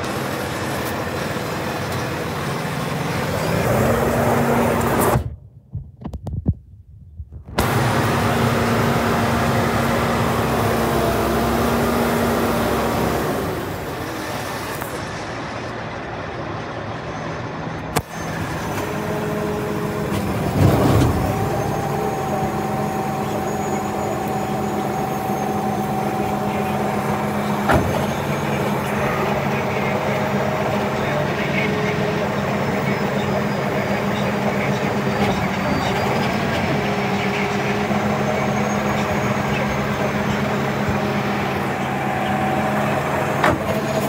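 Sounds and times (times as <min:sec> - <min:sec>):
diesel truck engine idling: 0:00.0 - 0:05.1, 0:07.6 - 0:44.0.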